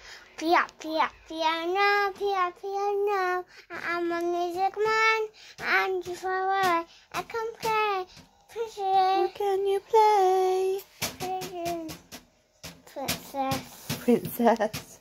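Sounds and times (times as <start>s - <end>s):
young child singing: 0.3s - 12.1s, 12.8s - 14.0s.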